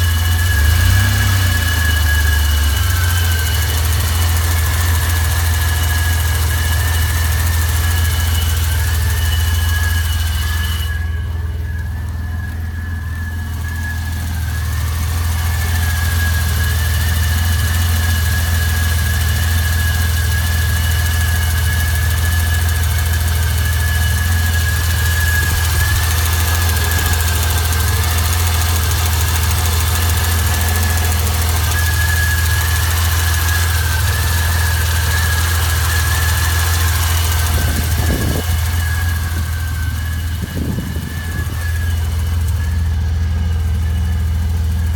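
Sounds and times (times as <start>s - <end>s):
car engine idling: 0.0s - 44.9s
thin high whistle: 0.0s - 44.9s.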